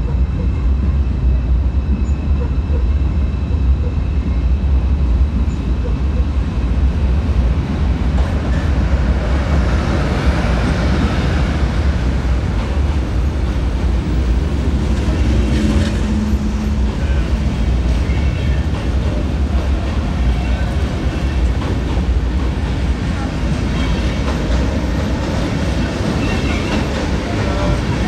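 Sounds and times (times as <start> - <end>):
trains rumbling past: 0.0 - 28.0.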